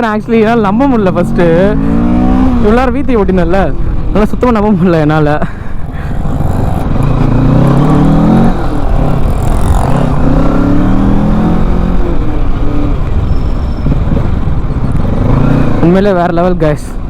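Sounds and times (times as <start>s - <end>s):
motorcycle engine accelerating: 0.0s - 3.6s, 5.9s - 16.2s.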